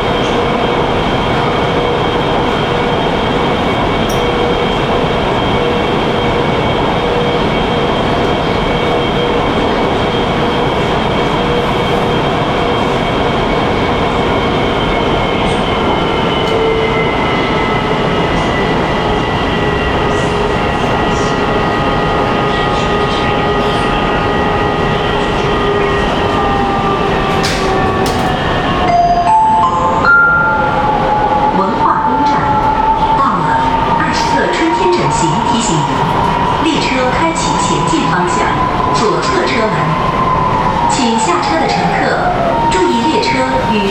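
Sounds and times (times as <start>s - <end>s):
metro train rushing through tunnel: 0.0s - 43.9s.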